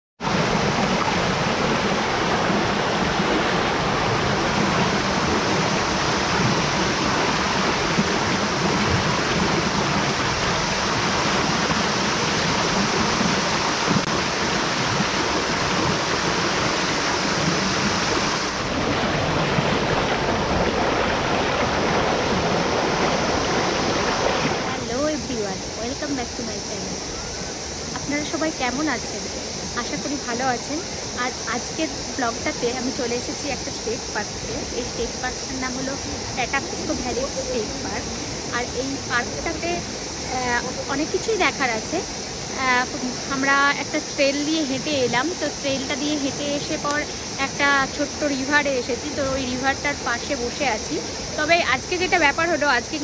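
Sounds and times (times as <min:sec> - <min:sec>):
water rushing over rocks: 0:00.2 - 0:53.0.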